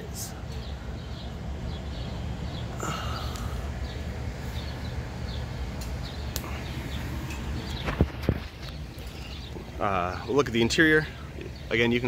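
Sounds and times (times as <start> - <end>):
small bird chirping: 0.0 - 12.0
steady low rumble: 0.0 - 12.0.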